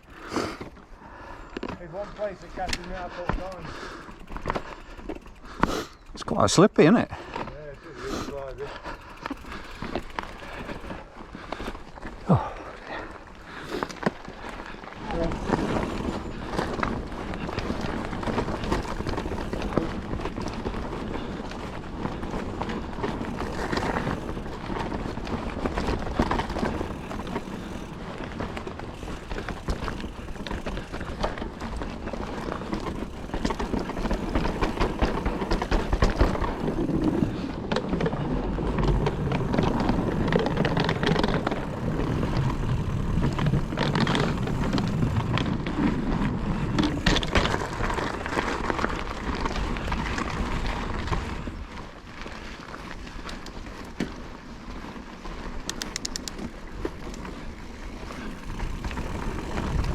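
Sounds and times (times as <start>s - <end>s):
bike tyres on dirt and stones: 0.0s - 59.9s
bike rattling and knocking: 1.4s - 59.9s.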